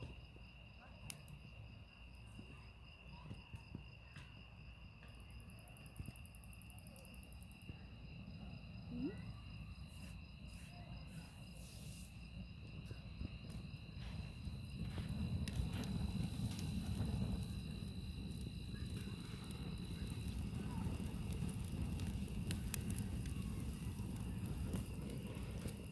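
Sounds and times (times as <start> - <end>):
crickets chirping: 0.0 - 25.9.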